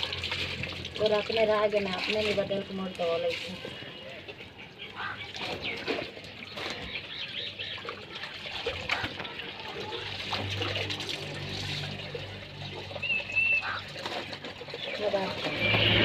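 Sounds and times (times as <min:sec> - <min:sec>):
water running from a hose: 0:00.0 - 0:04.1, 0:05.0 - 0:16.0
clothes sloshed in water: 0:00.0 - 0:16.0.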